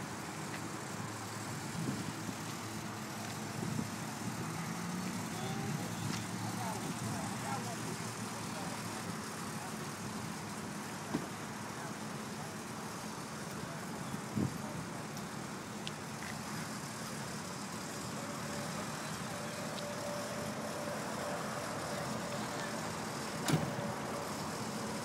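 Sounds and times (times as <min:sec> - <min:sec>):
cars idling and creeping: 0:00.0 - 0:25.0
outdoor noise hiss: 0:00.0 - 0:25.0.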